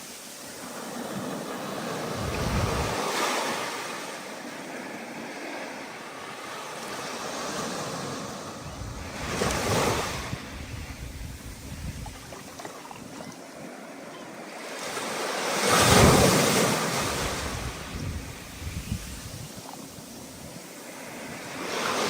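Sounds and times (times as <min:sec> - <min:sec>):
ocean waves breaking: 0:00.0 - 0:22.0
wind: 0:00.0 - 0:22.0.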